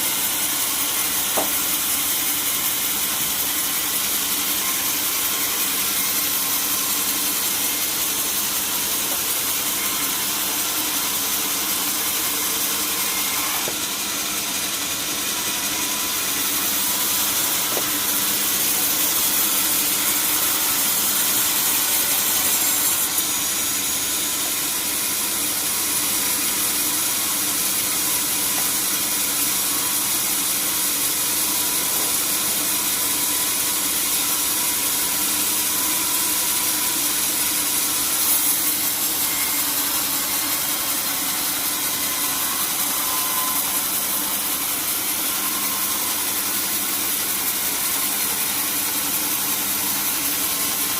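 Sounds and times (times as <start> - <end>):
saw blade hissing through wood: 0.0 - 50.9.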